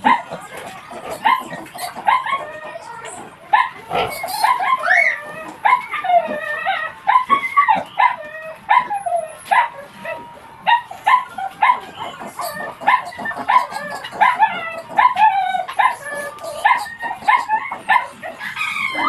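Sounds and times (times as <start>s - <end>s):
piglet squealing: 0.0s - 19.0s.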